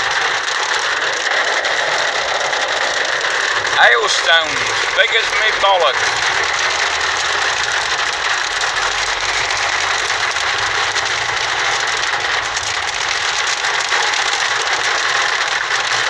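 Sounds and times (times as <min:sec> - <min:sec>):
engine running low: 0:00.0 - 0:16.0
hailstones pelting a vehicle: 0:00.0 - 0:16.0.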